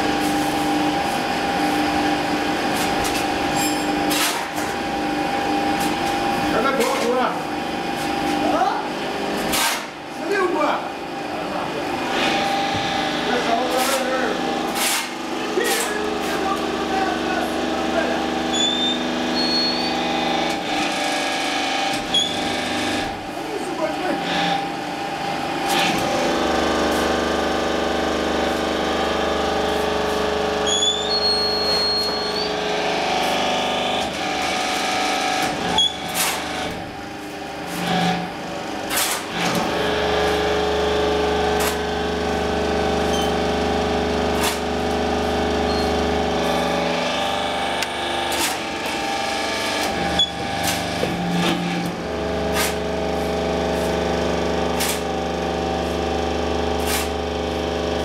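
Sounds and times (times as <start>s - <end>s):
hydraulic power unit humming: 0.0s - 58.0s.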